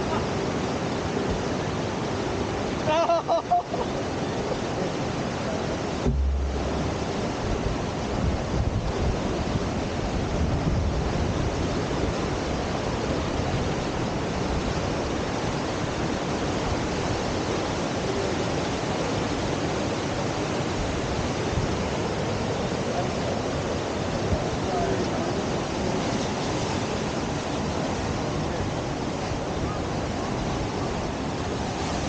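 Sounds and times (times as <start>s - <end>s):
whitewater rushing: 0.0s - 32.0s.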